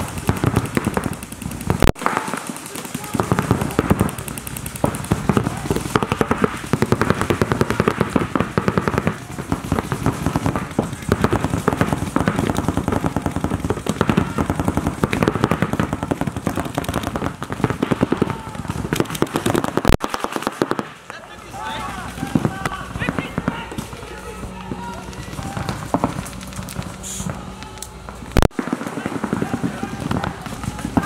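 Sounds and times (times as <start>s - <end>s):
paintball markers firing: 0.0s - 31.0s.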